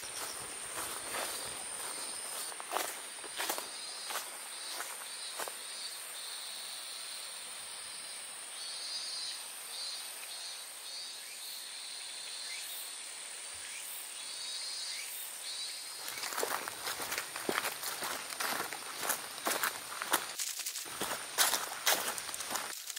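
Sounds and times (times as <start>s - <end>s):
insect trills: 0.0s - 22.9s
insects droning: 0.0s - 22.9s.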